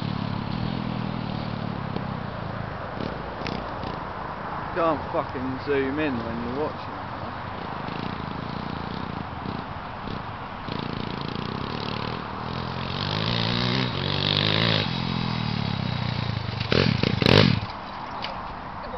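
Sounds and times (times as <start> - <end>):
small motorbike engine revving: 0.0 - 2.4, 3.0 - 4.1, 4.8 - 17.8.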